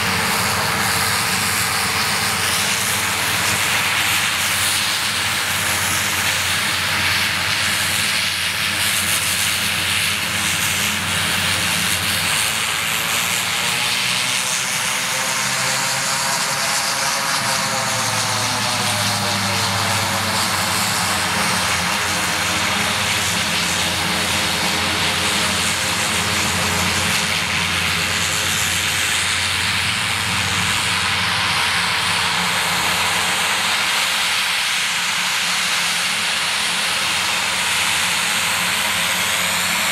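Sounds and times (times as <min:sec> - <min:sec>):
turboprop engines whining: 0:00.0 - 0:39.9.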